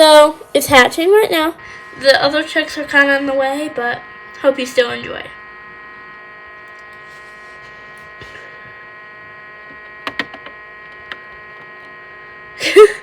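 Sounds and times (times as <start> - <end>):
incubator electrical hum: 0.0 - 13.0.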